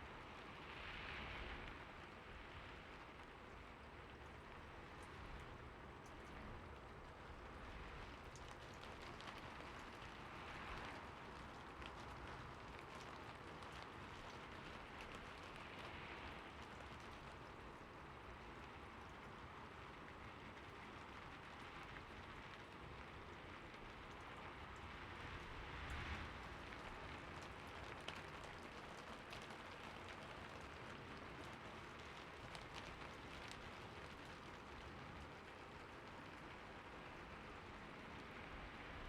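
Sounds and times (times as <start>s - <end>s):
heavy rain falling: 6.6s - 39.0s.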